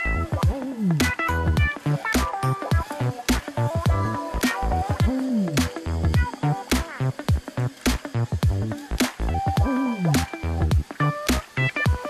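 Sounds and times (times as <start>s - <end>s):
electronic music with heavy beat: 0.0s - 12.0s.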